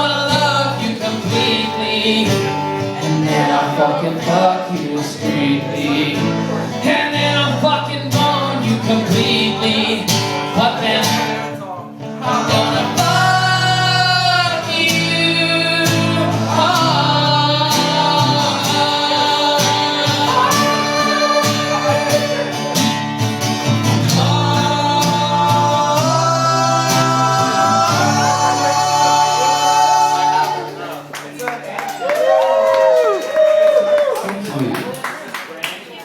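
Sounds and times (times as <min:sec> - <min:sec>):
man singing with vibrato: 0:00.0 - 0:30.9
acoustic guitar: 0:00.0 - 0:31.7.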